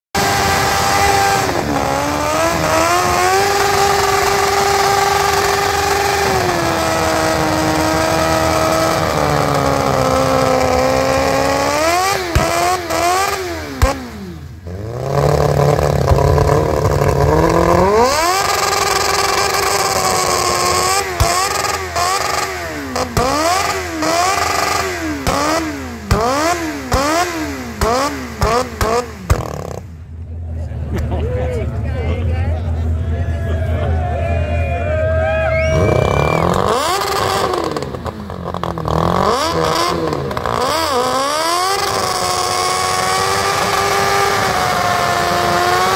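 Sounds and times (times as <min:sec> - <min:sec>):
motorcycle engine revving: 0:00.1 - 0:30.2, 0:35.6 - 0:45.9.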